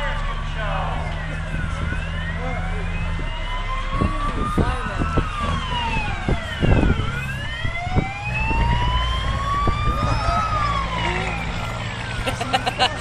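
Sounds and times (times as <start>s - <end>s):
engine humming: 0.0s - 13.0s
wailing siren: 0.0s - 13.0s.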